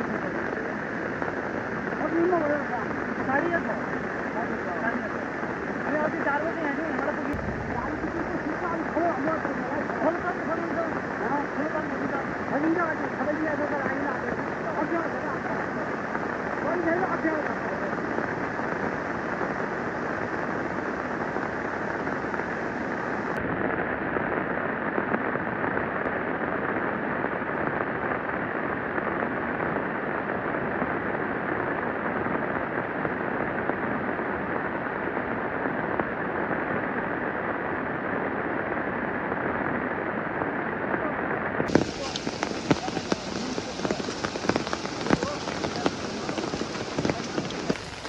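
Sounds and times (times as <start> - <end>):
heavy rain hissing: 0.0 - 48.0.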